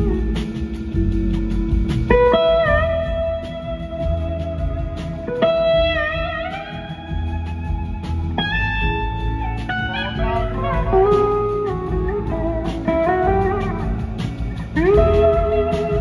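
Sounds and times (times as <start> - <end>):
electric slide guitar: 0.0 - 16.0
live rock band playing: 0.0 - 16.0.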